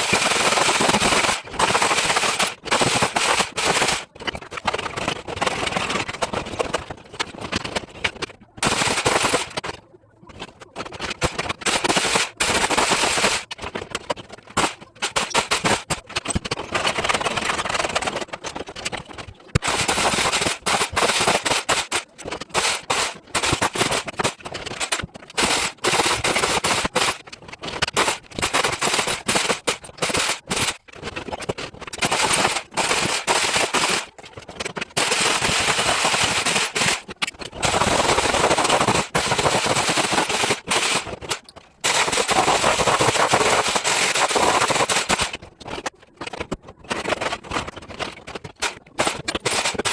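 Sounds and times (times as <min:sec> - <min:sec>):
demolition hammer chipping tile: 0:00.0 - 0:49.9.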